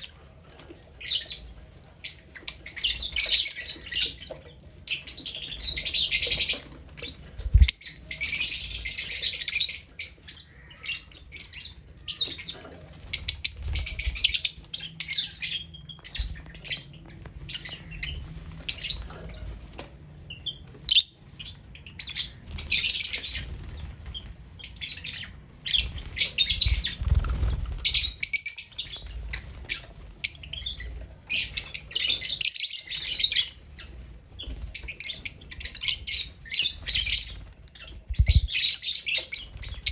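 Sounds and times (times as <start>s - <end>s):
lovebirds chattering shrilly: 4.9s - 19.2s, 20.3s - 39.9s.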